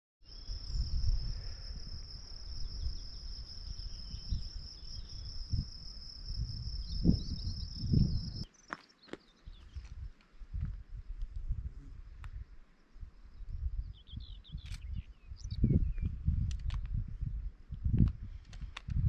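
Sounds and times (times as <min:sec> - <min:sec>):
crickets trilling: 0:00.2 - 0:19.0
gusty wind rumble: 0:00.3 - 0:08.4, 0:09.6 - 0:19.0.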